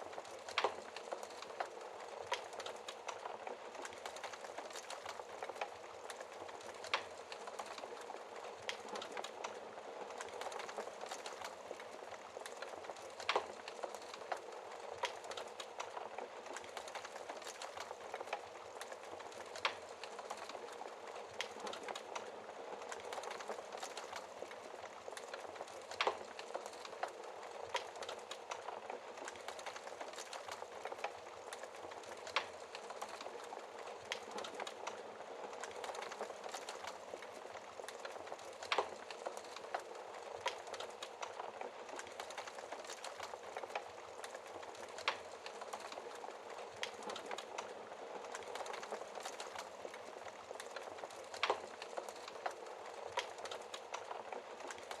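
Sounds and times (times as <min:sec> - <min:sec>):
fire popping: 0:00.0 - 0:55.0
wood fire crackling: 0:00.0 - 0:55.0.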